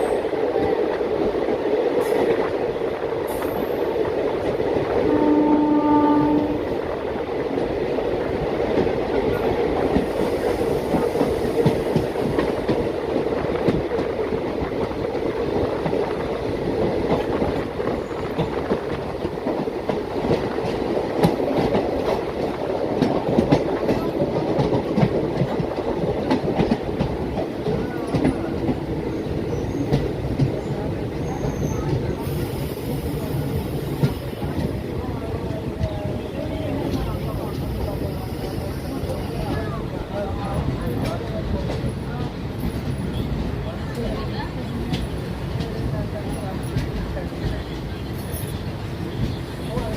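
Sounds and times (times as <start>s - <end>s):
train coach rumbling: 0.0s - 49.9s.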